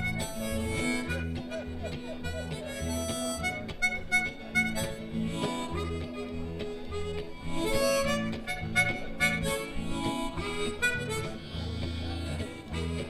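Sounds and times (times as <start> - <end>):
blues band playing: 0.0 - 13.0.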